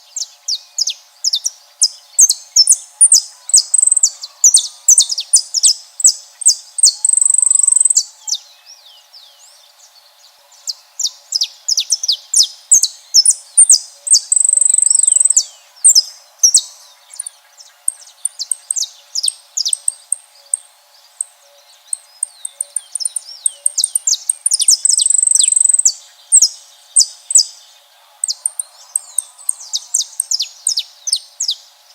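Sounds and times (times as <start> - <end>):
finch chirping and trilling: 0.1 - 31.9.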